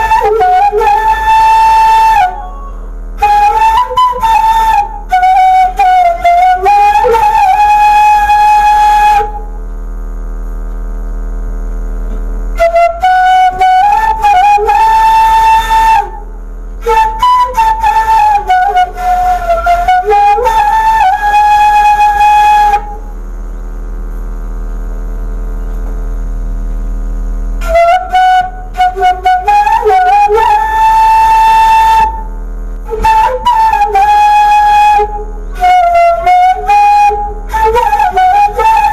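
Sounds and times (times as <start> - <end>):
bamboo flute melody: 0.0 - 9.7, 12.5 - 23.1, 27.6 - 38.9
low steady hum: 0.0 - 38.9.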